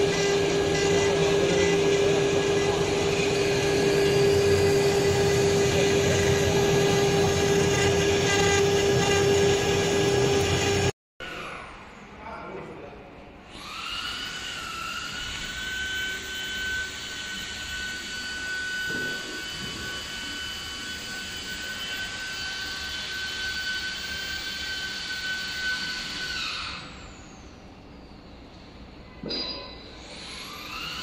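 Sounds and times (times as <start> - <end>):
router spindles whining: 0.0 - 11.4, 13.5 - 27.6, 30.0 - 31.0.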